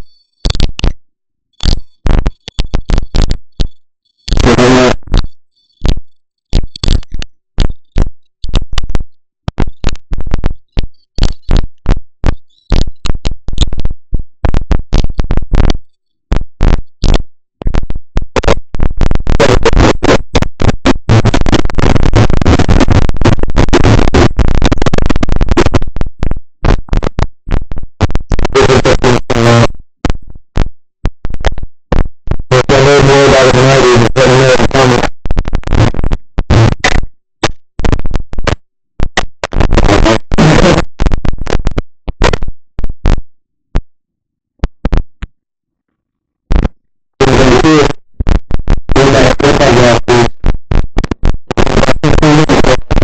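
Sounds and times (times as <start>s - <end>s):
microphone static crackling: 0.0s - 44.0s, 44.6s - 45.4s, 46.4s - 53.0s.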